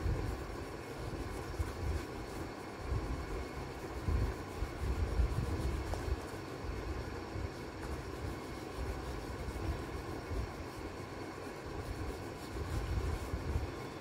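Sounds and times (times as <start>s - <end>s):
crayon scratching on paper: 0.0s - 14.0s.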